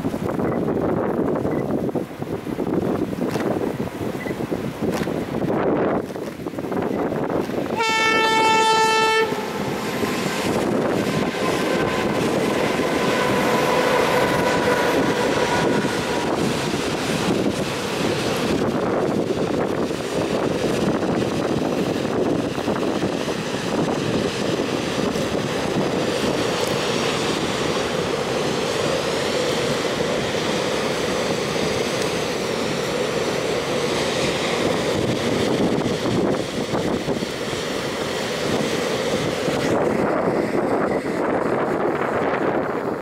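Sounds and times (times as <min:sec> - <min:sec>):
freight train wagons rumbling: 0:00.0 - 0:43.0
wind buffeting microphone: 0:00.0 - 0:43.0.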